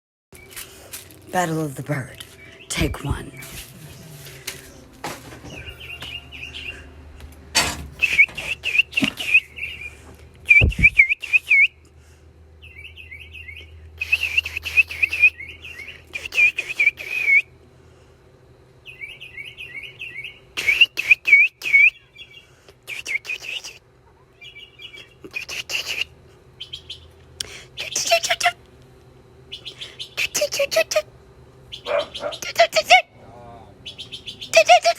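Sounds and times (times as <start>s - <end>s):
mockingbird chirping: 1.4s - 7.1s, 8.0s - 11.8s, 12.6s - 17.4s, 18.8s - 28.6s, 29.4s - 34.9s.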